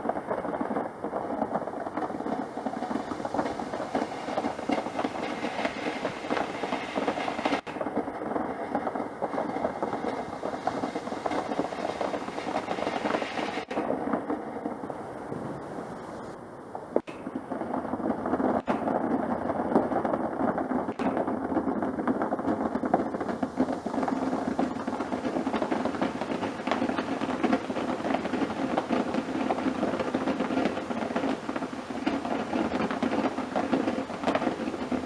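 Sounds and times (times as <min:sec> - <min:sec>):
firework crackling and fizzing: 0:00.0 - 0:35.0.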